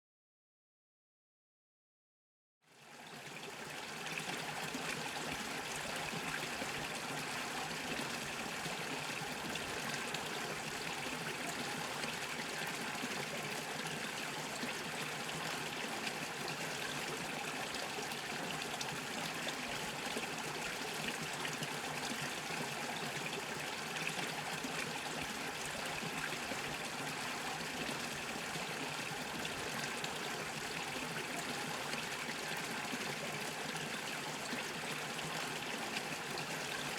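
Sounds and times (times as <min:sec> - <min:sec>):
brook bubbling over stones: 0:02.9 - 0:36.9.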